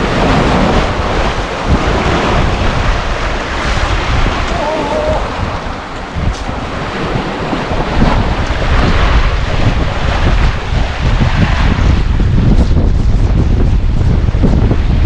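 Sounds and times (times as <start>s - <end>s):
waves washing against rocks: 0.0s - 15.0s
wind buffeting microphone: 0.0s - 15.0s.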